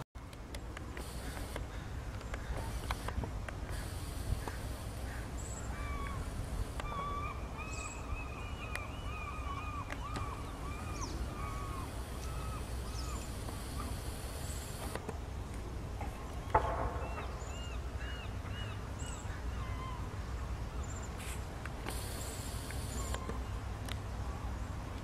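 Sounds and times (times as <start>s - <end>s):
birds chirping: 0.9s - 15.0s, 16.3s - 20.1s, 20.7s - 23.6s.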